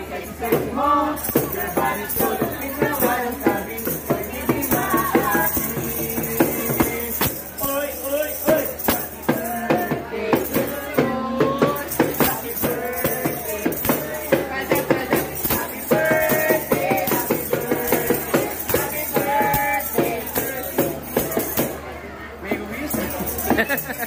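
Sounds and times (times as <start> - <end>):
people singing: 0.0 - 21.8
tambourines shaken rhythmically: 0.0 - 21.9, 22.5 - 24.0.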